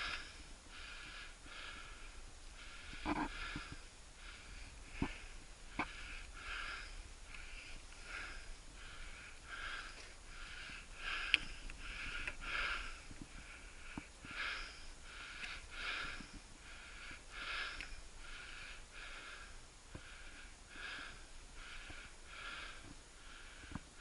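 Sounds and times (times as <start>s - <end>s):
rhythmic breathing: 0.0s - 24.0s.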